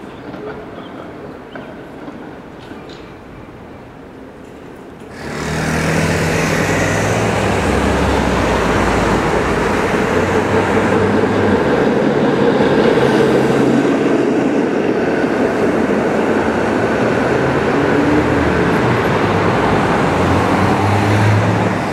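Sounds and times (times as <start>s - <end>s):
streetcar wheels rumbling on rails: 0.0s - 21.9s.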